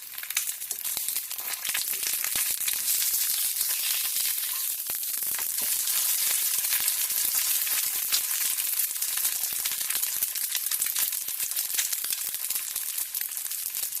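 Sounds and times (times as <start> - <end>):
egg sizzling in hot oil: 0.0 - 14.0.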